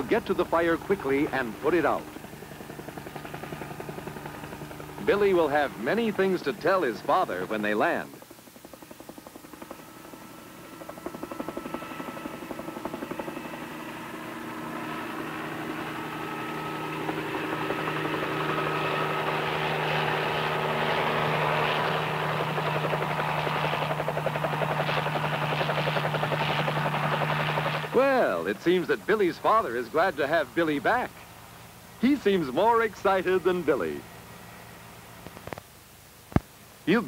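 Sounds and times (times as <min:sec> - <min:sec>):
helicopter rotor beating: 0:00.0 - 0:35.5.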